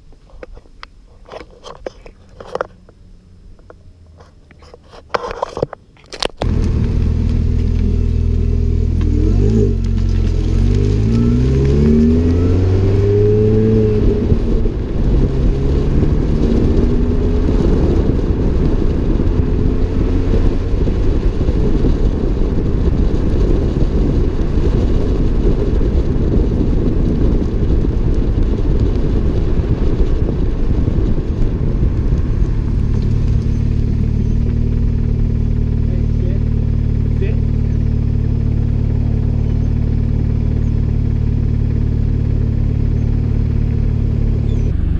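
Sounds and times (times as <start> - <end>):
road noise: 0.0 - 44.9
car engine accelerating: 6.3 - 44.9
wind buffeting microphone: 6.4 - 44.9.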